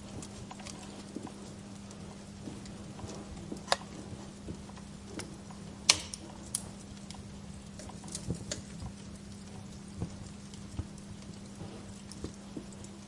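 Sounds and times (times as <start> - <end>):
faint steady hum: 0.0 - 13.0
firewood crackling: 0.0 - 13.0.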